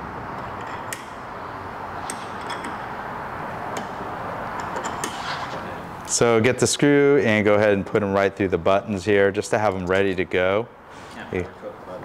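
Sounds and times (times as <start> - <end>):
workshop background noise: 0.0 - 12.0.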